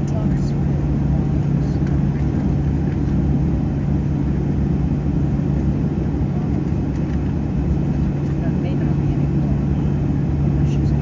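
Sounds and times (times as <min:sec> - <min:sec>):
aircraft cabin rumble: 0:00.0 - 0:11.0
low engine hum: 0:00.0 - 0:11.0.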